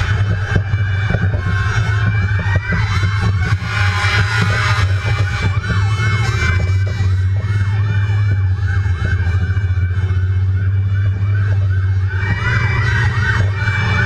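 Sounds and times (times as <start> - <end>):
fire engine siren yelping: 0.0 - 14.0
low rumble: 0.0 - 14.0.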